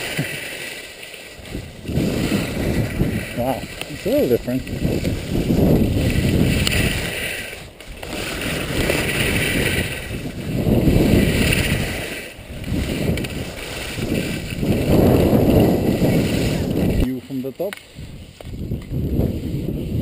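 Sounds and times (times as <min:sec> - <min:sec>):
skis scraping on plastic matting: 0:00.0 - 0:20.0.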